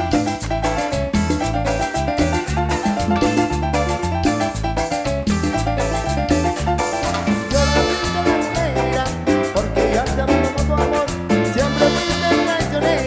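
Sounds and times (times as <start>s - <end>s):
live cumbia band playing: 0.0s - 13.0s.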